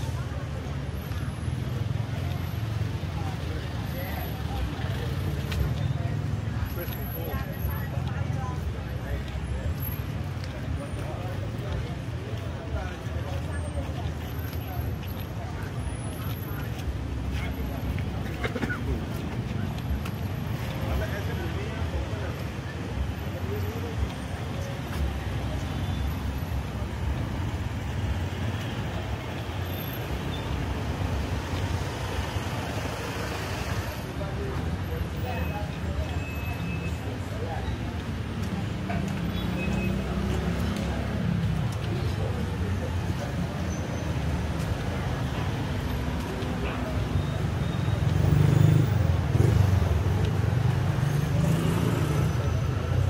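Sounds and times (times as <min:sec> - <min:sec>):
passing vehicles rumbling: 0:00.0 - 0:53.0.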